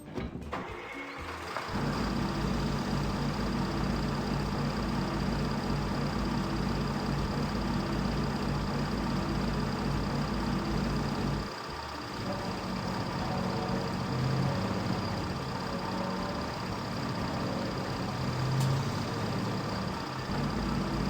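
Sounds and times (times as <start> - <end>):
motor hum: 1.3 - 21.0.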